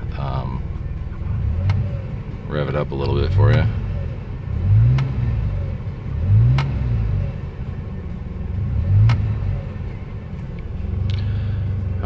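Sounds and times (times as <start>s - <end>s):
car engine revving from idle: 0.0s - 12.0s.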